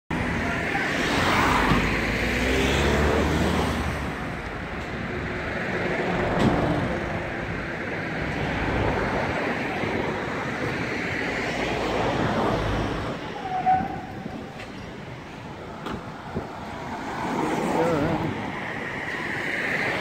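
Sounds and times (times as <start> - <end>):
cars passing on road: 0.1 - 20.0.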